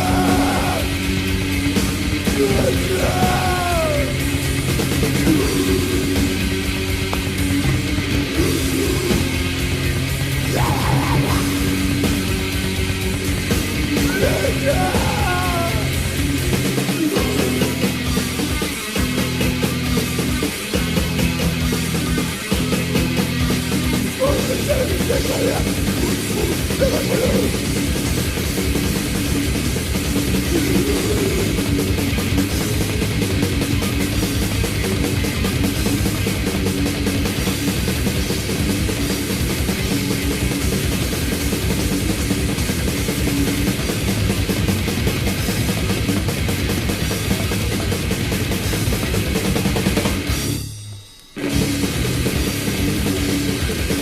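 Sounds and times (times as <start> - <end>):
bass guitar: 0.0 - 54.0
distorted electric guitars: 0.0 - 54.0
fast drum kit: 0.0 - 54.0.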